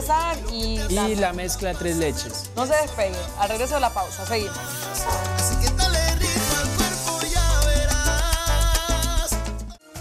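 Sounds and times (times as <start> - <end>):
upbeat salsa music: 0.0 - 10.0.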